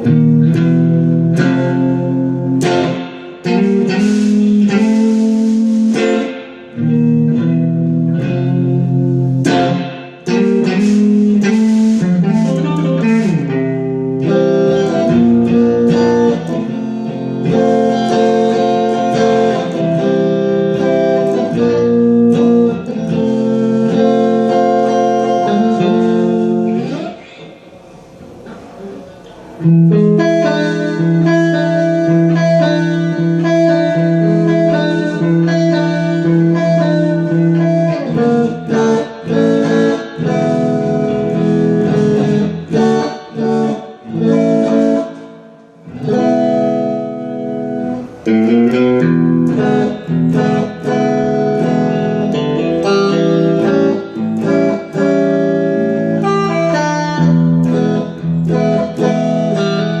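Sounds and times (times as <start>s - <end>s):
electric guitar playing blues: 0.0s - 27.4s, 28.8s - 60.0s.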